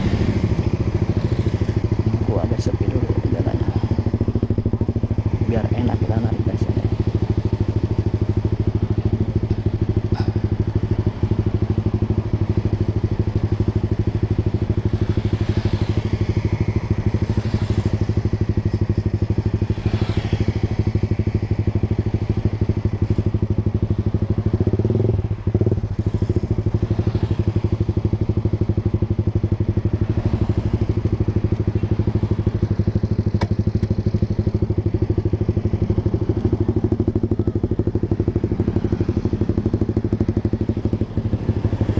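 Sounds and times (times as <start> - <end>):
faint passing traffic: 0.0 - 41.9
motorcycle engine idling: 0.0 - 41.9.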